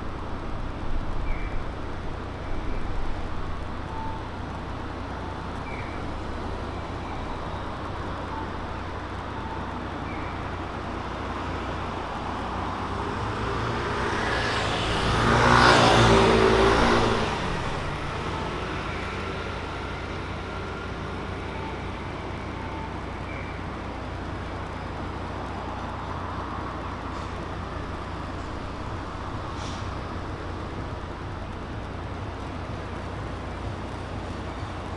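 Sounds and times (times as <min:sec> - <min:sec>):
low street hum: 0:00.0 - 0:34.9.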